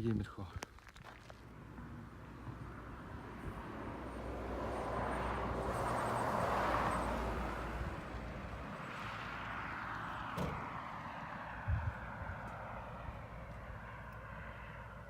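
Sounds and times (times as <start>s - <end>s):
vehicle passing by: 1.6s - 15.0s.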